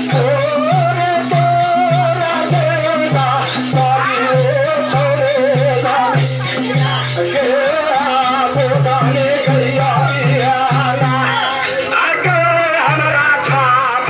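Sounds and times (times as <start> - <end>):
person singing ornamented melody: 0.0 - 14.0
rattling percussion: 0.0 - 14.0
steady drum beat: 0.0 - 14.0.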